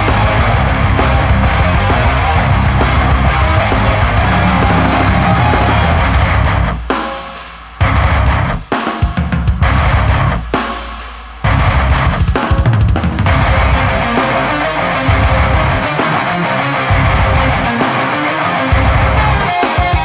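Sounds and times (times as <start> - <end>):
heavy metal band playing: 0.0 - 20.0.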